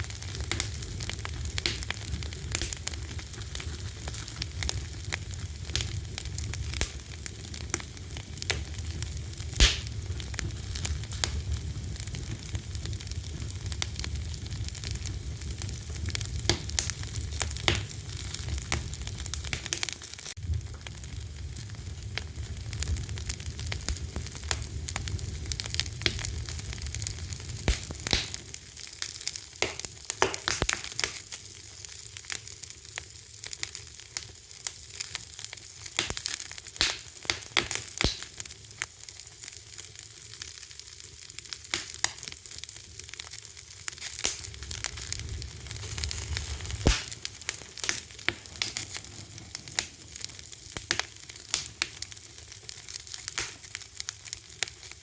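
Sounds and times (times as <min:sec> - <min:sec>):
low rumble of flame: 0:00.0 - 0:29.4, 0:39.8 - 0:55.0
wood fire crackling and popping: 0:00.0 - 0:55.0.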